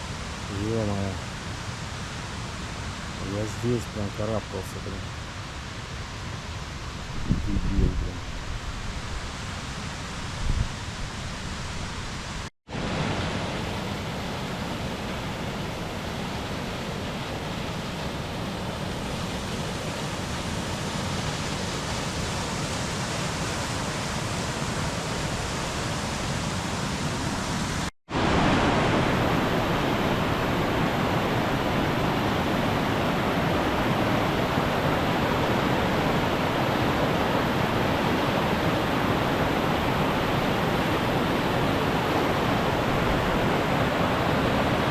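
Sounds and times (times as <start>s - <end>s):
mountain stream rushing: 8.3s - 44.9s.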